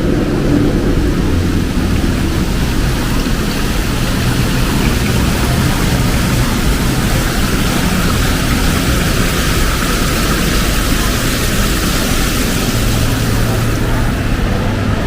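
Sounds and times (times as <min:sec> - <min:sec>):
heavy rain hissing: 0:00.0 - 0:15.0
street traffic rumble: 0:00.0 - 0:15.0.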